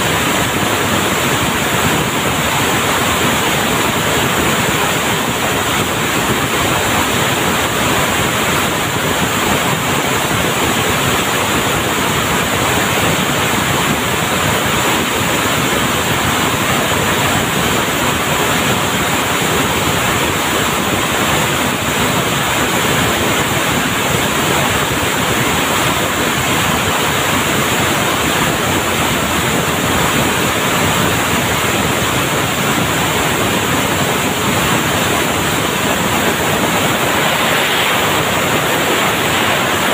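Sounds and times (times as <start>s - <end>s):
textile mill machinery clatter: 0.0s - 39.9s.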